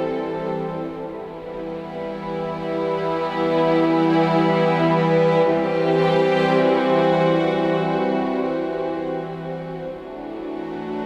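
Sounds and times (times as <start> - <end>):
sad drama score sustained chords: 0.0 - 11.0.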